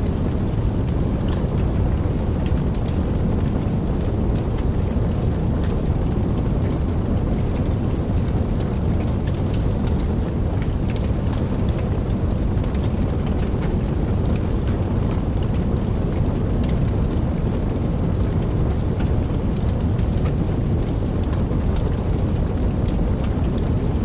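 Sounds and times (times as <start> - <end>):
campfire crackling: 0.0 - 24.0
steady low rumble: 0.0 - 24.0.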